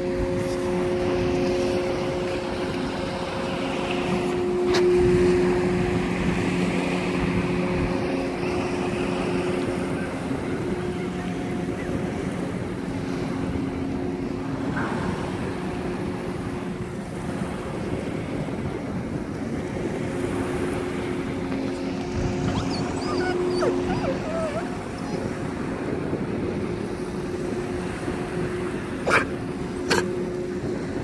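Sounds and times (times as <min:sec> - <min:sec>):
ship engine hum: 0:00.0 - 0:31.0
wind noise on microphone: 0:00.0 - 0:31.0.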